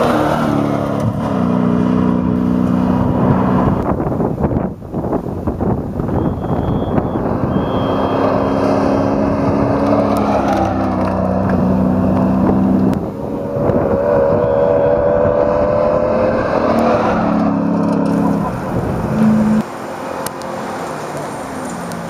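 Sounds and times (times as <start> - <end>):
truck engine running hard: 0.0 - 16.4, 17.3 - 22.0.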